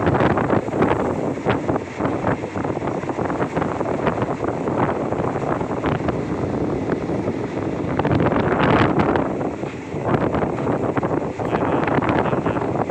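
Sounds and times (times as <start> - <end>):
train rumbling along track: 0.0 - 12.9
wind noise on microphone: 0.0 - 12.9.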